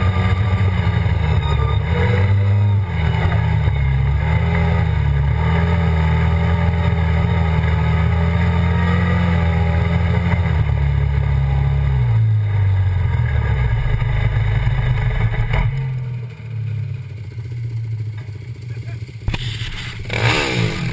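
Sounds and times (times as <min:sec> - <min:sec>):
atv engine revving: 0:00.0 - 0:20.9.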